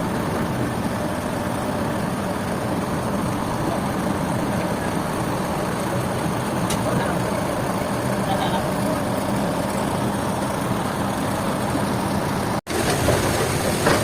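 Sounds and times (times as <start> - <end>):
heavy engine running: 0.0 - 14.0.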